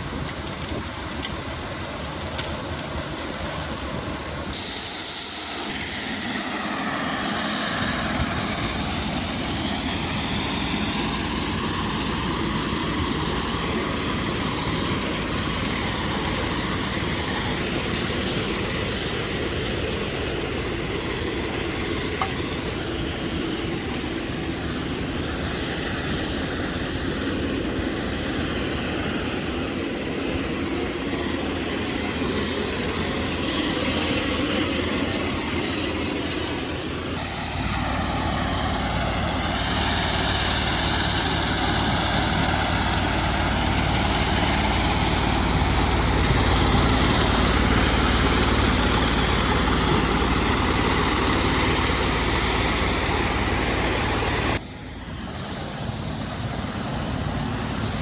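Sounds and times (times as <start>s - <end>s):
heavy machinery running: 0.0s - 58.0s.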